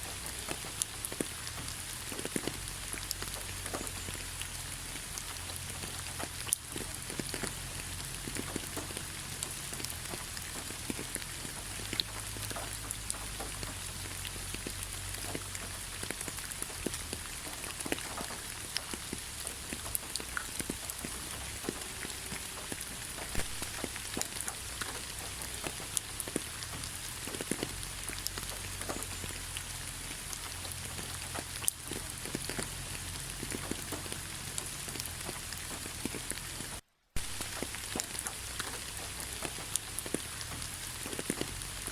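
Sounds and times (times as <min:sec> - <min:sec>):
raindrops ticking sharply: 0:00.0 - 0:41.9
steady rain falling: 0:00.0 - 0:41.9.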